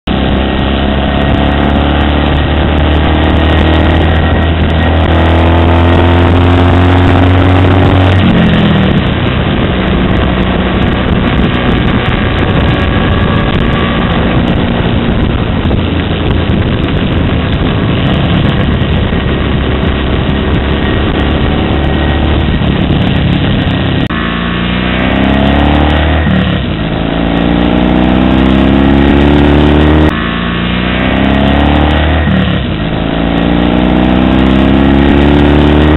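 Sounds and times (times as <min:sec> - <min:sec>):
motorcycle engine accelerating: 0:00.0 - 0:35.9
wind rush over microphone: 0:00.0 - 0:35.9.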